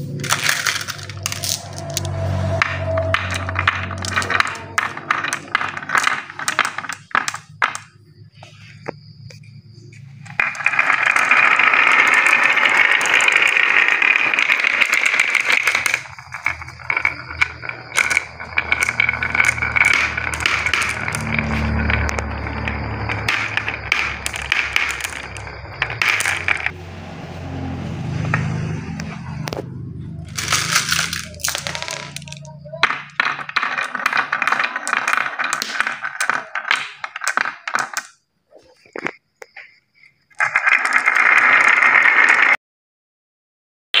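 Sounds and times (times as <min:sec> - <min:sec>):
marbles clacking together: 0:00.0 - 0:08.1, 0:10.2 - 0:26.8, 0:30.2 - 0:39.6, 0:40.3 - 0:42.6
marbles rolling on tracks: 0:00.0 - 0:26.8, 0:28.1 - 0:42.6.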